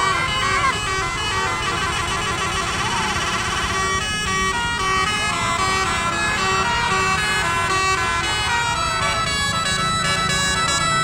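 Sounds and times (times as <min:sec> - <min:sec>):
multi-tone horn melody: 0:00.0 - 0:11.0.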